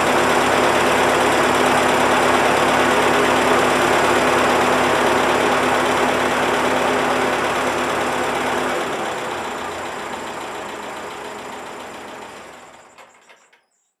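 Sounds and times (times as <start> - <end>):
tractor engine running: 0.0 - 13.8.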